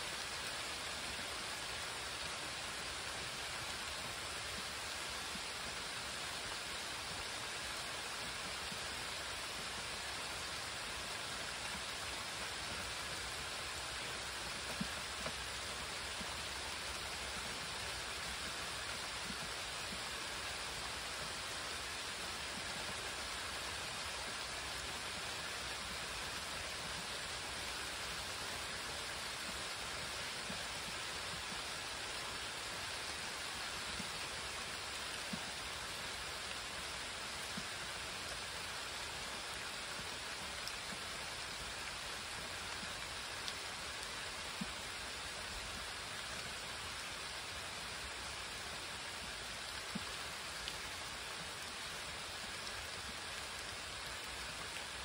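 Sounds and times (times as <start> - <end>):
rain on leaves and pavement: 0.0 - 55.0.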